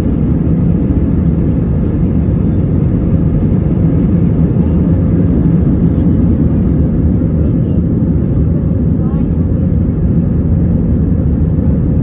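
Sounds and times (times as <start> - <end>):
jet engines rumbling: 0.0 - 12.0
plane rolling on the ground: 0.0 - 12.0.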